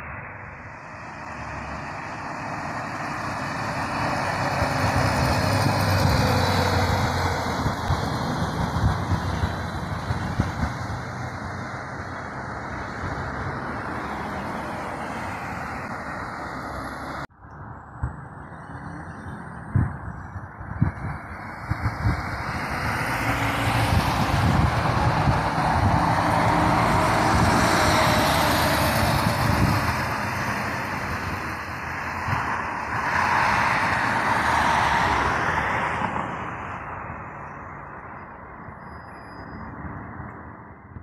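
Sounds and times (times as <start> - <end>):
vehicle passing: 0.0 - 17.3, 20.8 - 37.8
bus passing close by: 0.0 - 41.0.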